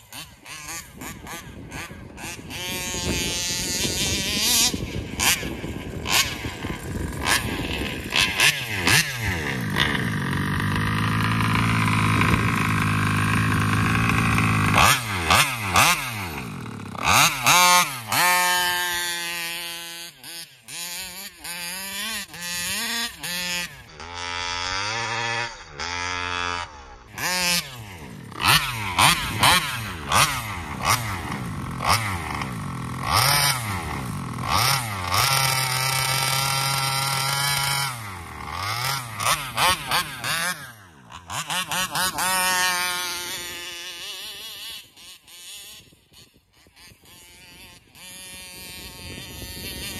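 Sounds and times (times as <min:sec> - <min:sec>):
two-stroke engine revving: 0:00.0 - 0:49.9.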